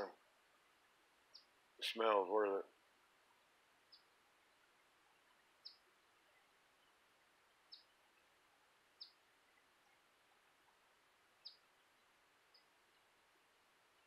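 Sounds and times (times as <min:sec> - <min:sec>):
bird chirping faintly: 0:00.0 - 0:14.0.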